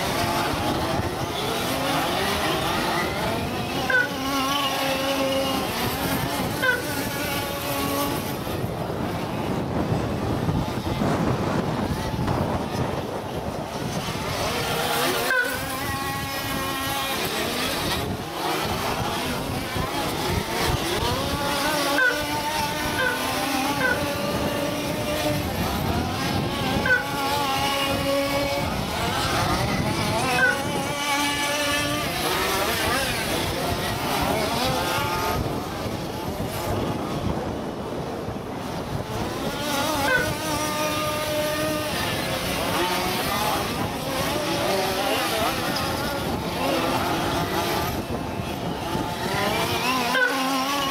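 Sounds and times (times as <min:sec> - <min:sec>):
small nitro engines revving: 0:00.0 - 0:50.9.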